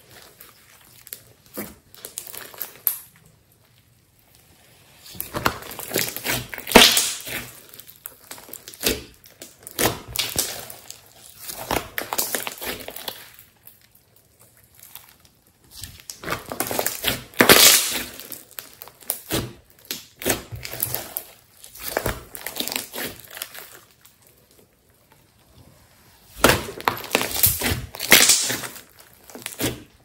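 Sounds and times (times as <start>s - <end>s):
slime crackling and popping: 0.0s - 30.0s.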